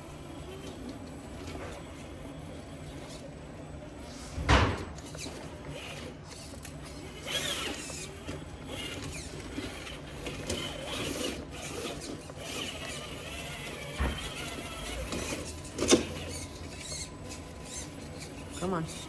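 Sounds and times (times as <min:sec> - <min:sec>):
electric motor whirring: 0:00.0 - 0:19.0.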